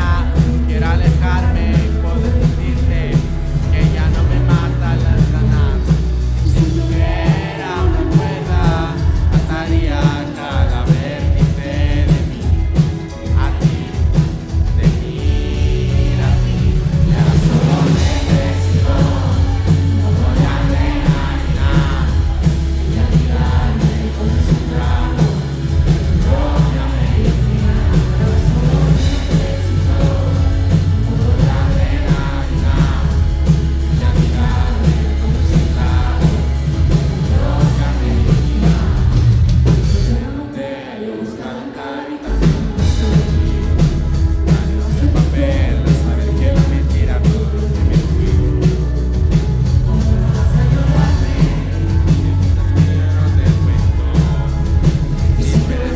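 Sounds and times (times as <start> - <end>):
live pop-rock band: 0.0 - 55.9
person singing: 0.0 - 55.9.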